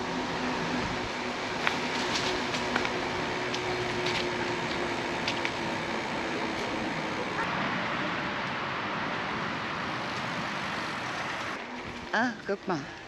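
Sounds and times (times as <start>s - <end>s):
e-bike rolling: 0.0s - 13.0s.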